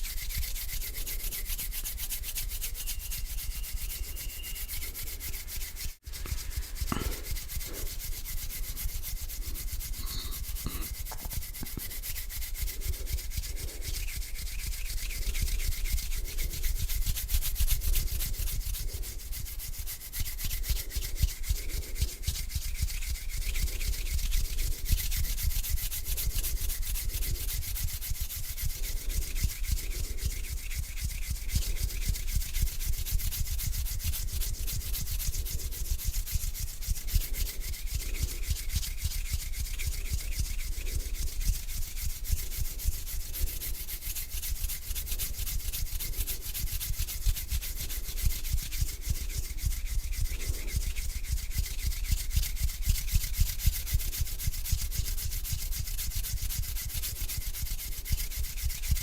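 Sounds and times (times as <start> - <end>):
hands rubbing together: 0.0 - 59.0.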